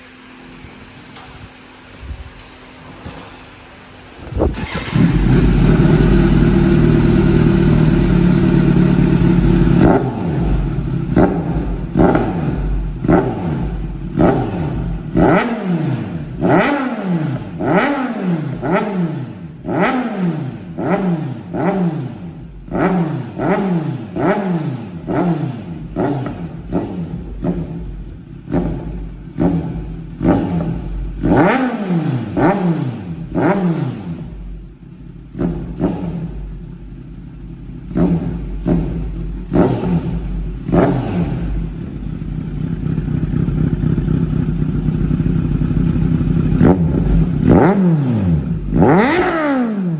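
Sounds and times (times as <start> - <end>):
motorcycle engine revving: 4.2 - 49.9.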